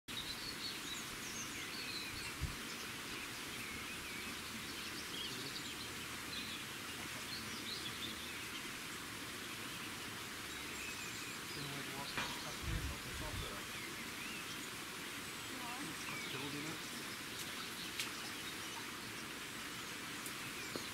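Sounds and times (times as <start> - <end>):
small birds chirping: 0.1 - 20.9
steady outdoor hiss: 0.1 - 20.9.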